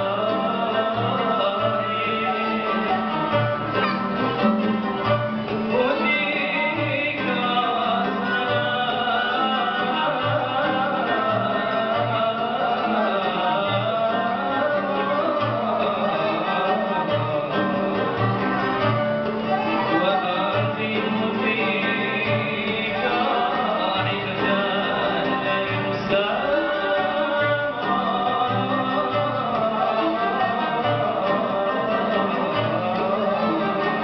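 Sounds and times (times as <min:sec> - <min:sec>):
person singing: 0:00.0 - 0:03.6, 0:05.6 - 0:34.0
string ensemble playing melody: 0:00.0 - 0:34.0.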